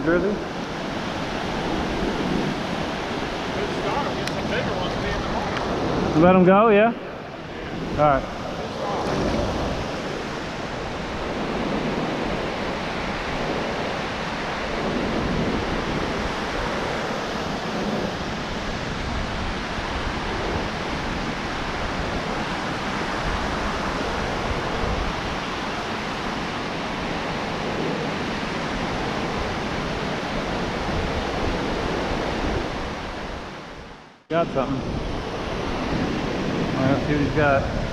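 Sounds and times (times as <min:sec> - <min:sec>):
ocean surf washing onto beach: 0:00.0 - 0:37.9
wind on microphone: 0:00.0 - 0:37.9.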